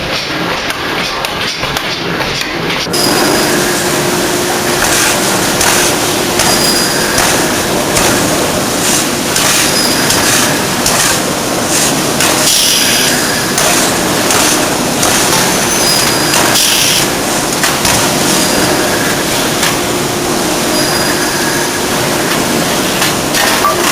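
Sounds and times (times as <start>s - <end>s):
rolling mill mechanical noise: 0.0s - 23.9s
high metallic squeals: 2.9s - 11.7s, 12.4s - 17.3s, 18.1s - 23.9s.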